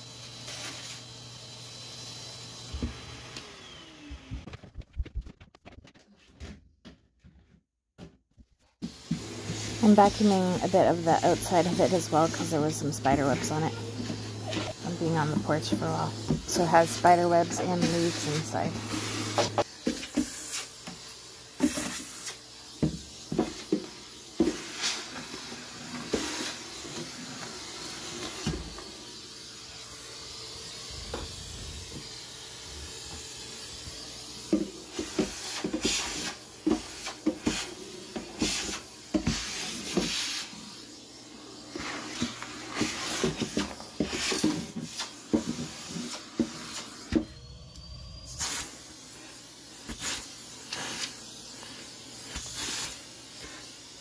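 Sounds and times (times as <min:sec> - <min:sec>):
vacuum cleaner hissing: 0:00.0 - 0:04.5, 0:08.8 - 0:54.0.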